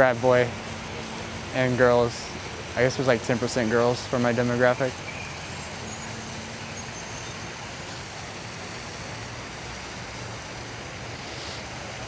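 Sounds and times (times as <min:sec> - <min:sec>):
rushing outdoor background noise: 0:00.0 - 0:12.0.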